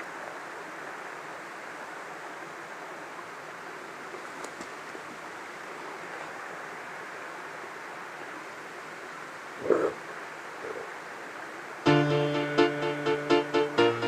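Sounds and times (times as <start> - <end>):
stream rushing over rocks: 0.0 - 11.9.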